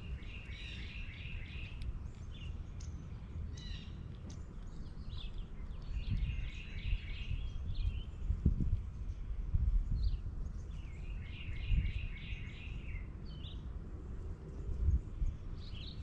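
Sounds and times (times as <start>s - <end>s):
low outdoor rumble: 0.0s - 16.0s
small birds chirping: 0.0s - 16.0s.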